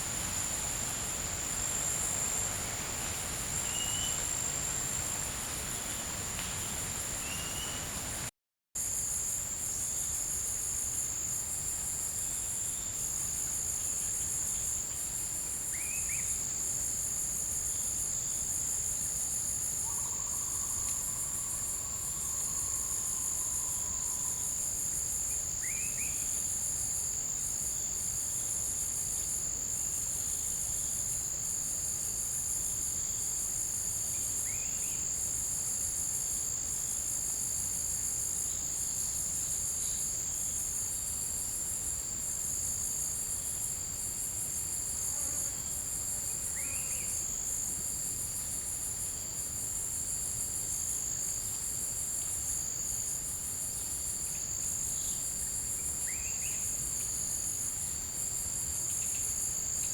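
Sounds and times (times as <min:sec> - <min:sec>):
insects buzzing: 0:00.0 - 0:08.2, 0:08.8 - 0:59.9.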